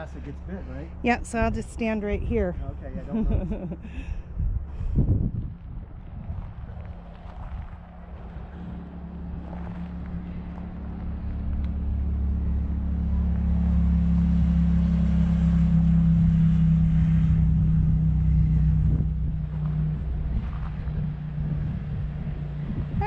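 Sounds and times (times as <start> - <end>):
vehicle engine droning past: 0.0 - 23.0.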